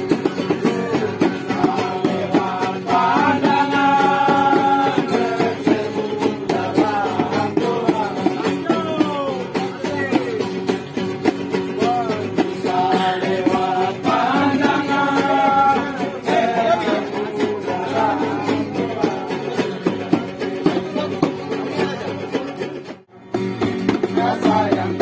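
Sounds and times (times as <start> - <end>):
men singing folk song: 0.0 - 10.6, 11.4 - 22.0, 23.6 - 25.0
strummed acoustic guitars and ukulele: 0.0 - 25.0.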